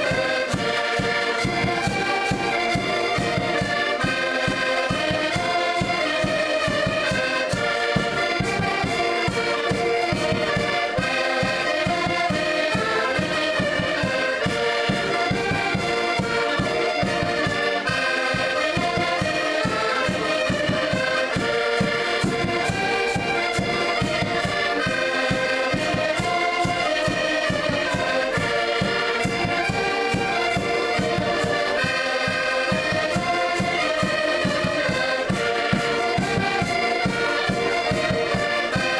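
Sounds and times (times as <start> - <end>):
accordion ensemble playing: 0.0 - 38.9
steady low beat: 0.0 - 38.9.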